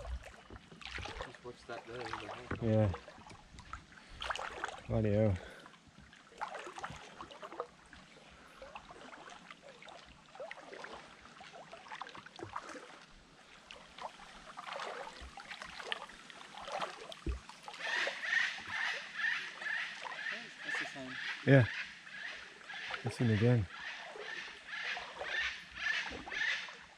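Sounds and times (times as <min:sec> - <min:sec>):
water splashing around wading legs: 0:00.0 - 0:21.1, 0:24.0 - 0:26.9.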